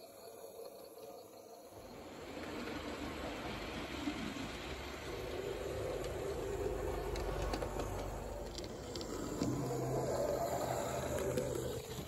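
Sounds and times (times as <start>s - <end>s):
model train wheels rattling: 2.0s - 12.0s.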